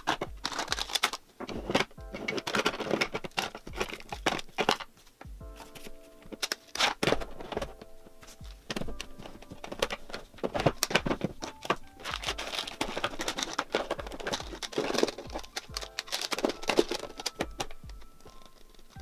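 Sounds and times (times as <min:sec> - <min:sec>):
plastic packaging clicks and rustling: 0:00.0 - 0:19.0
soft background music with beat: 0:00.0 - 0:19.0.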